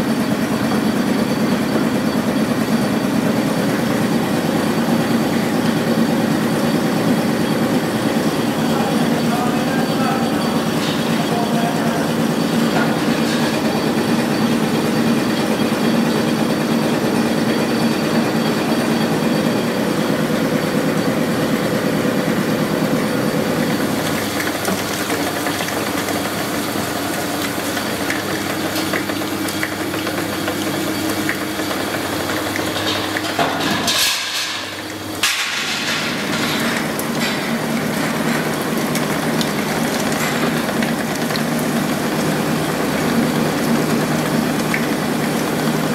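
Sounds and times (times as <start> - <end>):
roll-forming machinery hum: 0.0 - 45.9.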